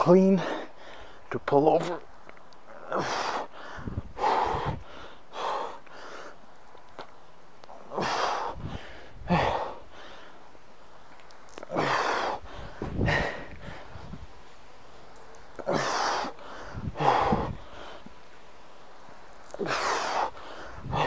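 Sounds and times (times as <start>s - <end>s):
man breathing heavily: 0.0s - 1.3s, 2.6s - 21.0s.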